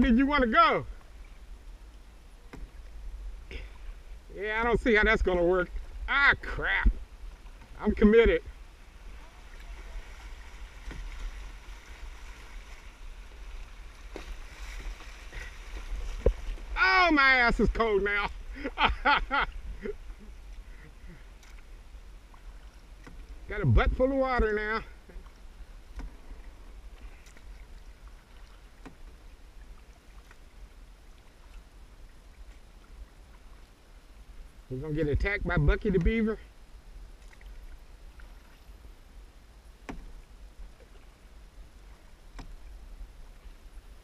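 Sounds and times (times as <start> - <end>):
low steady rumble: 0.0 - 44.0
river water rushing around kayak: 0.0 - 44.0.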